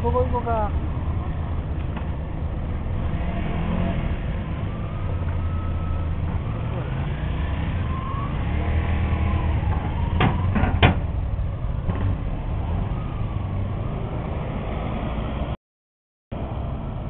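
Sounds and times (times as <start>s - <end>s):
motorcycle engines idling and revving: 0.0s - 15.6s, 16.3s - 17.0s.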